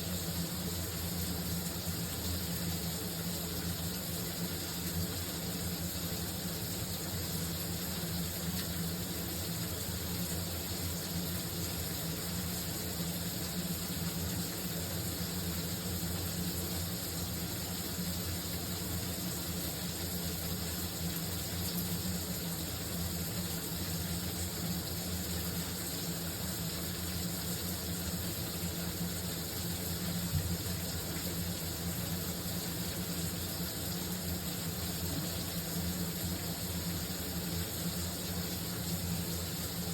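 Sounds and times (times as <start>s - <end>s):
shower running: 0.0s - 39.9s.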